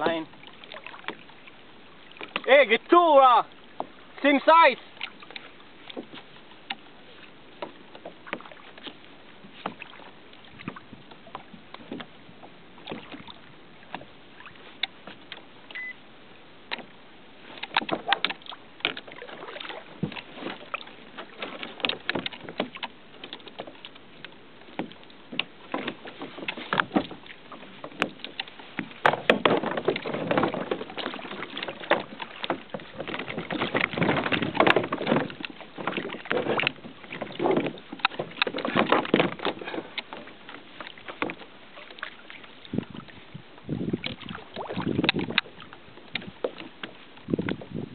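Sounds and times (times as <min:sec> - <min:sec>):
knocks and clatters from boat: 0:00.0 - 0:47.9
water lapping against boat hull: 0:00.0 - 0:47.9.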